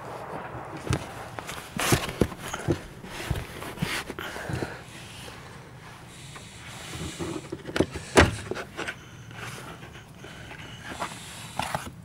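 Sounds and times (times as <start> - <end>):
handling rustle: 0.1 - 12.0.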